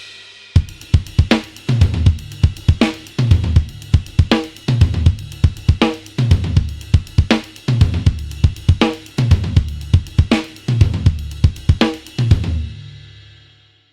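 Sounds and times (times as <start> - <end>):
rock drum groove: 0.0 - 13.4.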